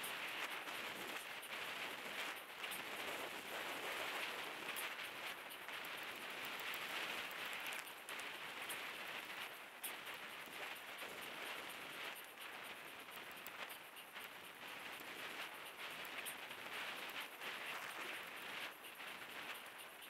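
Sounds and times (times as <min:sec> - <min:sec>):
faint ticks: 0:00.0 - 0:20.0
wind over camera: 0:00.0 - 0:20.0.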